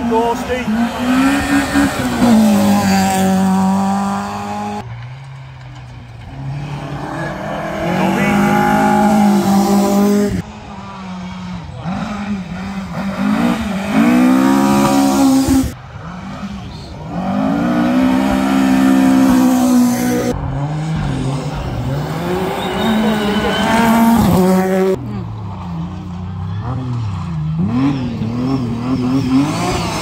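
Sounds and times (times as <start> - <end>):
rally car engines revving: 0.0 - 30.0.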